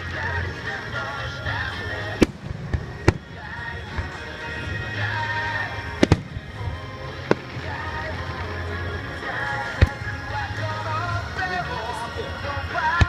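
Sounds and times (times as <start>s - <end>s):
music playing: 0.0s - 13.0s
fireworks bursting: 0.8s - 11.6s.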